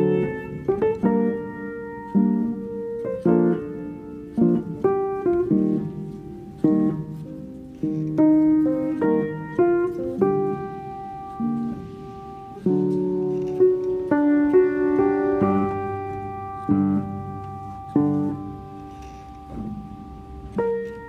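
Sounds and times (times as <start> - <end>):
instrumental piano music: 0.0 - 21.0.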